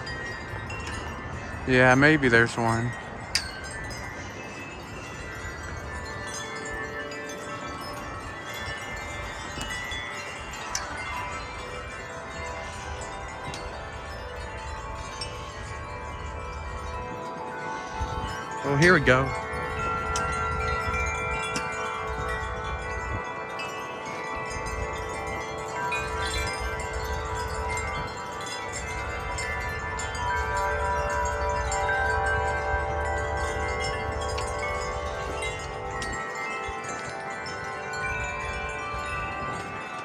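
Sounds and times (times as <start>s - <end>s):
wind chimes ringing: 0.0s - 40.0s.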